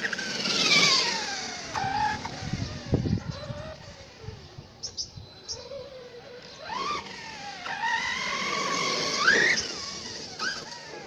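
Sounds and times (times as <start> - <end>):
rc truck motor whining: 0.0 - 11.0.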